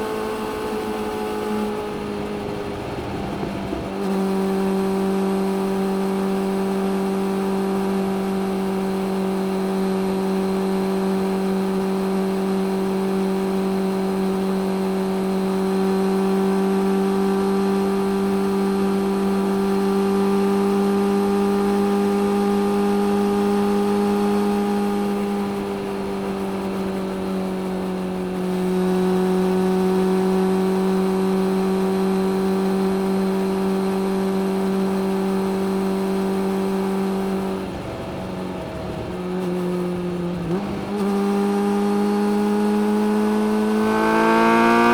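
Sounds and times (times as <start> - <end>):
motorcycle engine under way: 0.0 - 44.9.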